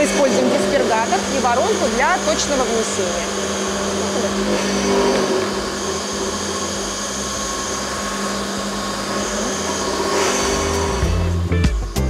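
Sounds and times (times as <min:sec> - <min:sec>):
disperser machine humming: 0:00.0 - 0:12.0.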